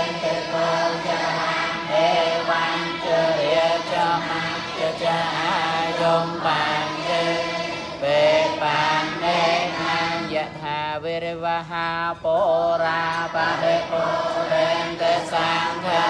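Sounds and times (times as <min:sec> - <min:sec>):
monks chanting in unison: 0:00.0 - 0:16.0.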